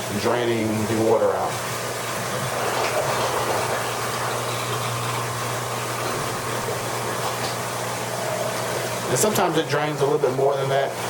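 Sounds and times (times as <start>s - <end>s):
pump electrical hum: 0.0s - 11.0s
rushing water: 0.0s - 11.0s.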